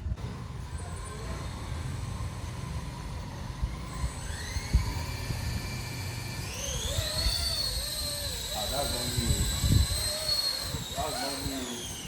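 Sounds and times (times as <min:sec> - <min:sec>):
electric motor and rotor whine: 0:00.0 - 0:12.0.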